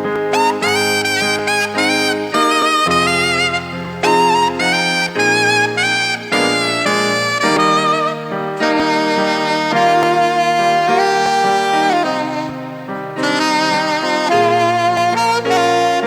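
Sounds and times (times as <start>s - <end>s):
saxophone slow melody: 0.0s - 16.0s
sustained accompaniment: 0.0s - 16.0s.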